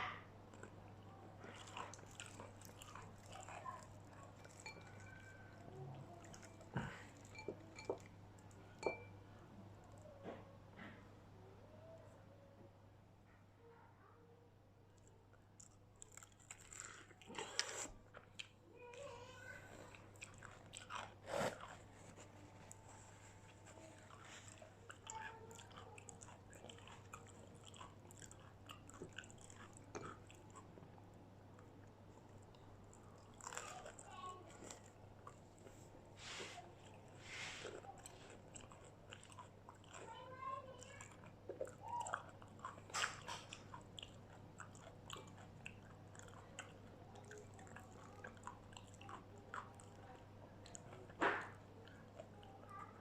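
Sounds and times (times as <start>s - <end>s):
chewing crispy fried food: 0.5s - 8.8s, 15.0s - 53.0s.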